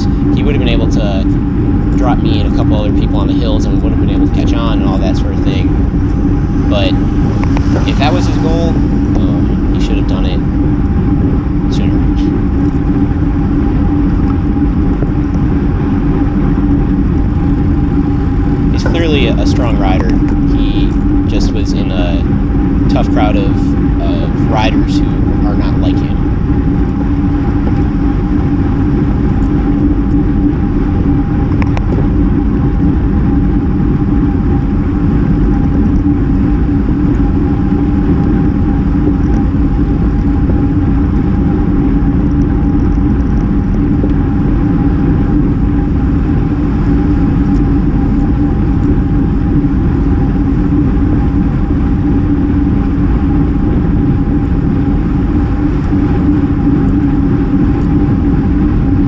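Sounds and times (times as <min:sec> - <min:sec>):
road and tyre noise: 0:00.0 - 0:59.0
steady hum: 0:00.0 - 0:59.0
wind rush over microphone: 0:00.0 - 0:59.0.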